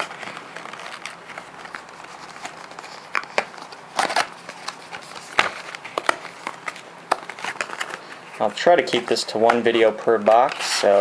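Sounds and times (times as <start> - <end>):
cardboard box and foil packs handled: 0.0 - 11.0
packaging rustle: 0.0 - 11.0.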